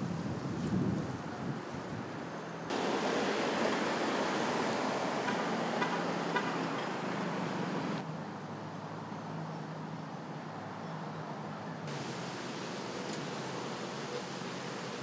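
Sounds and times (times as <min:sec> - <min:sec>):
distant traffic rush: 0:00.0 - 0:15.0.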